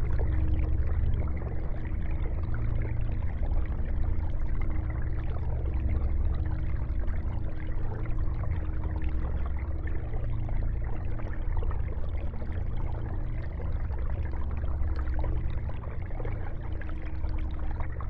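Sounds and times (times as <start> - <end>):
low filter hum: 0.0 - 18.0
water trickling: 0.0 - 18.0.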